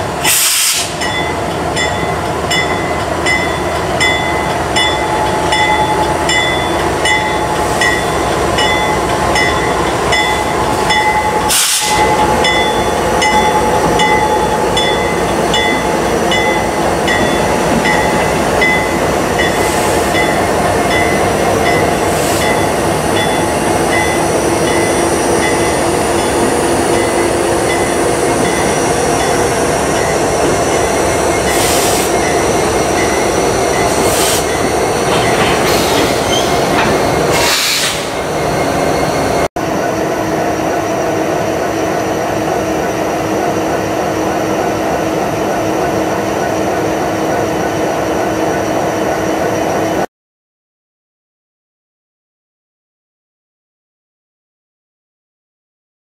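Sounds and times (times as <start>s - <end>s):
diesel locomotive engine drone: 0.0s - 50.1s.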